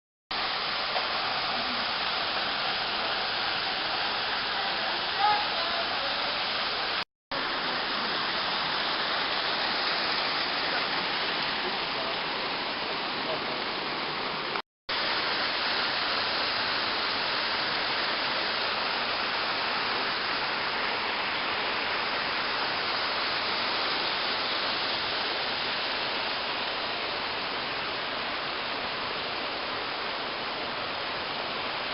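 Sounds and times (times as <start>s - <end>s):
waterfall roaring: 0.4s - 31.9s.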